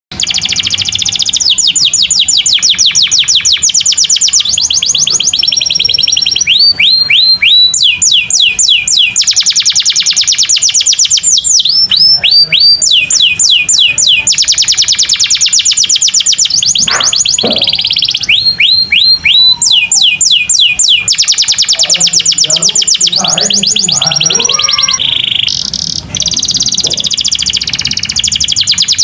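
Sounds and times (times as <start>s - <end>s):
canary singing trills: 0.1s - 29.0s.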